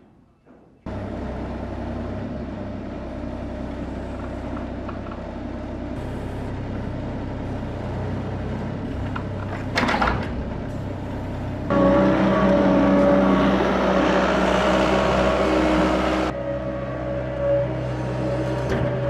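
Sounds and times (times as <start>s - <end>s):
excavator diesel engine running: 0.9s - 19.0s.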